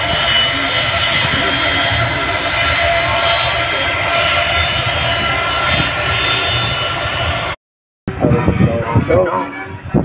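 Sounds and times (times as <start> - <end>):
jet engines rumbling and whining: 0.0 - 10.0.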